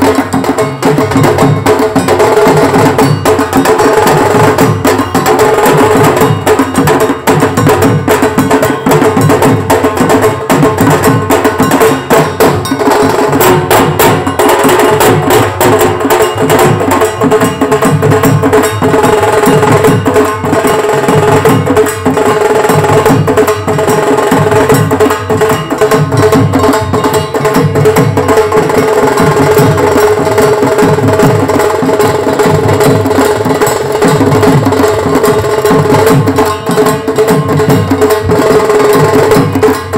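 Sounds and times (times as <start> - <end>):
fast dense drumming: 0.0 - 39.9.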